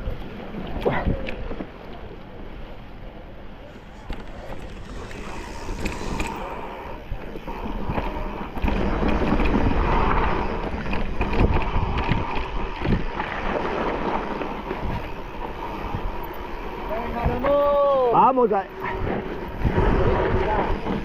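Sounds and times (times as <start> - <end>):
bike tyres on trail: 0.0 - 21.0
wind on microphone: 3.7 - 21.0.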